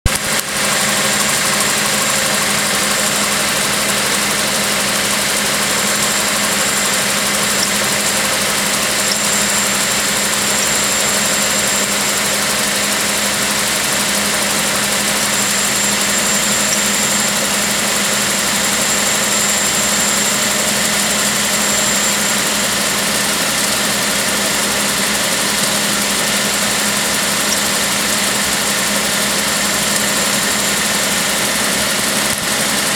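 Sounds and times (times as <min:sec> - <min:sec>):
constant hum: 0:00.1 - 0:32.9.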